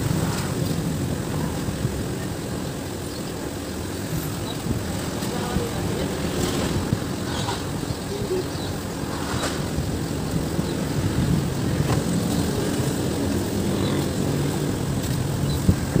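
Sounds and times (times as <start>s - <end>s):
traffic engine rumble: 0.0s - 16.0s.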